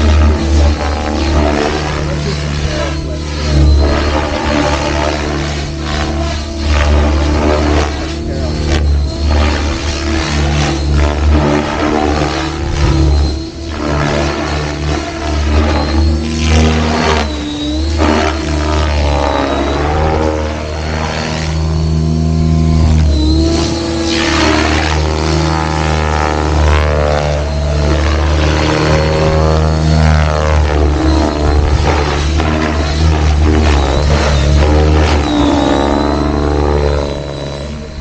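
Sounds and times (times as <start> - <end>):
helicopter rotor buzz: 0.0 - 38.0
motor whine: 0.0 - 38.0.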